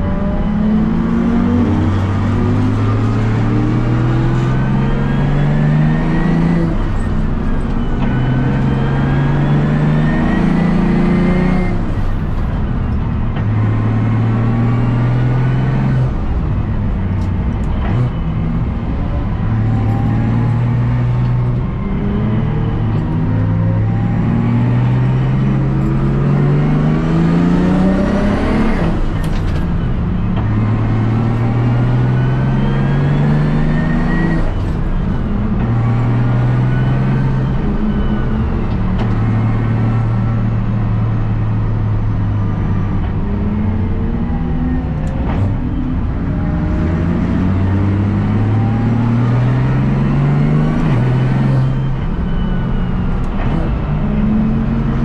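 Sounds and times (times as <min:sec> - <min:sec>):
race car engine revving through gears: 0:00.0 - 0:55.0.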